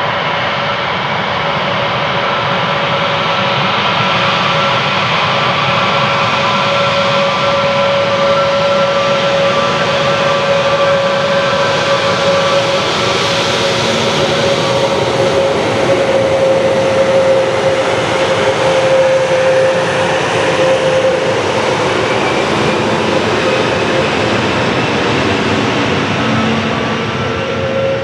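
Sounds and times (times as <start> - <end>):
jet engines running with whine: 0.0 - 28.0.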